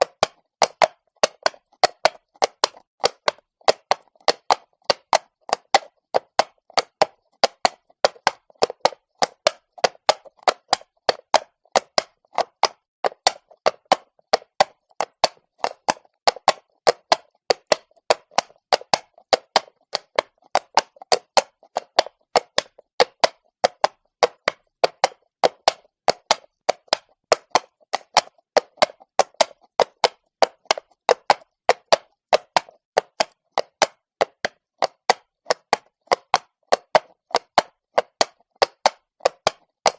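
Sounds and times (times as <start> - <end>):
horse hooves on cobblestone: 0.0 - 39.9.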